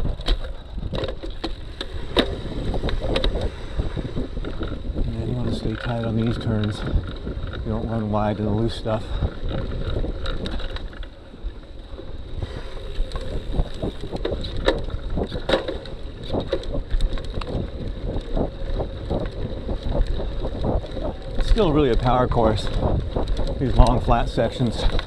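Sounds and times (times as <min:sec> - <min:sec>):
bike rattling clicks and knocks: 0:00.0 - 0:25.0
bike tyres rumbling on dirt: 0:00.0 - 0:25.0
wind buffeting microphone: 0:00.0 - 0:25.0.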